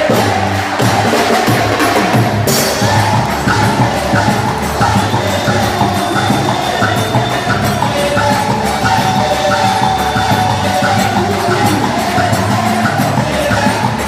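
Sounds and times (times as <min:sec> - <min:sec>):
folk dance music with percussive beat: 0:00.0 - 0:14.0.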